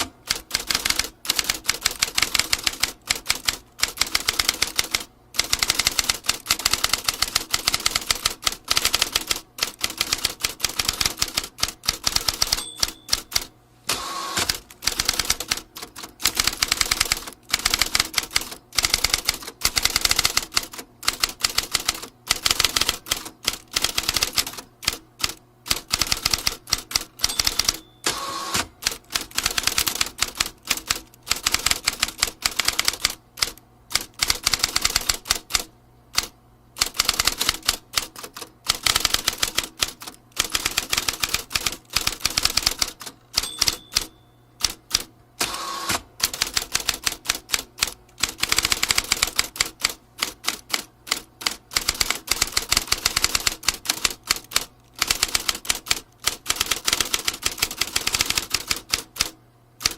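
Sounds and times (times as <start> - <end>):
typewriter keys clicking: 0.0 - 13.5, 14.4 - 27.9, 28.6 - 45.1, 45.9 - 59.9.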